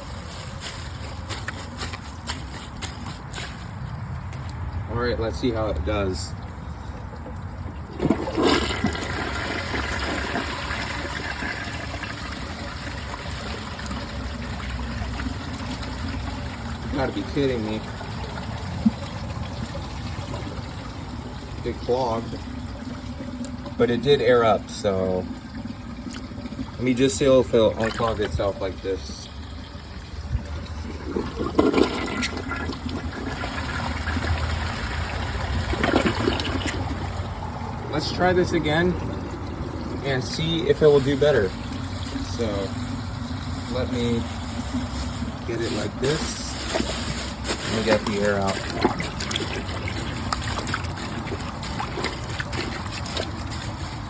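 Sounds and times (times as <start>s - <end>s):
water rushing and gurgling: 0.0s - 54.0s
toilet flushing: 5.3s - 54.0s.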